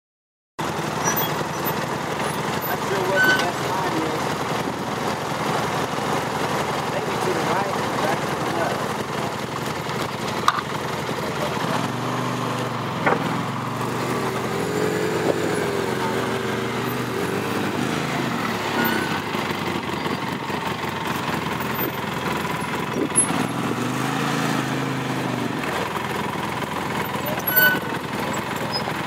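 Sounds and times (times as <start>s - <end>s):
vehicle engine under load: 0.6s - 29.0s.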